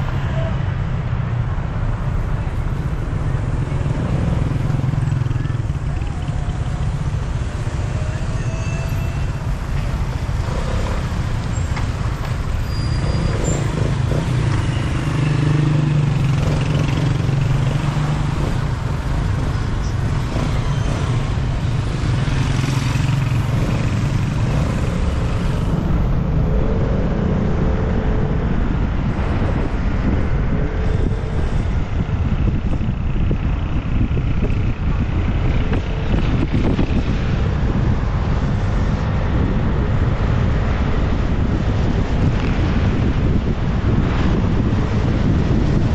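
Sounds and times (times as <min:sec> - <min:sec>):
road and wind rumble: 0:00.0 - 0:45.9
surrounding traffic: 0:00.0 - 0:45.9.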